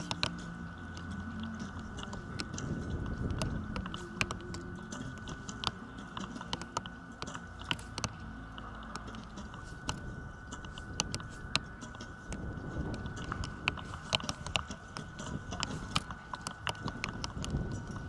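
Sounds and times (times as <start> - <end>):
faint high whine: 0.0 - 18.0
wind on microphone: 0.0 - 18.0.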